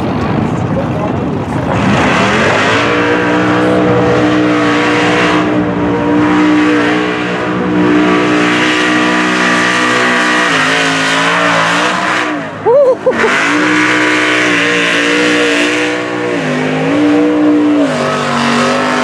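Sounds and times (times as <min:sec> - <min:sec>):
truck engine revving: 0:00.0 - 0:19.0
tires spinning through mud: 0:01.6 - 0:19.0.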